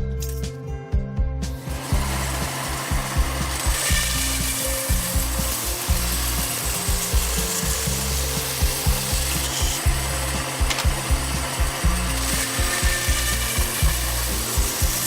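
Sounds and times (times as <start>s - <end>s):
background music with beat: 0.0s - 15.0s
power tool rasping wood: 1.6s - 15.0s.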